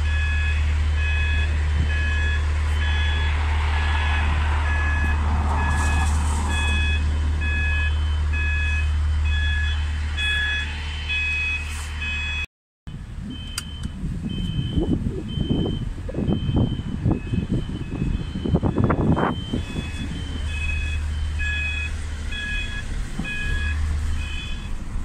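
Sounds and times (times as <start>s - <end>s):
beeping warning alarm: 0.0s - 12.5s, 13.2s - 24.8s
level-crossing alarm beeping: 0.0s - 12.5s, 13.2s - 24.8s
diesel engine humming: 0.0s - 25.0s.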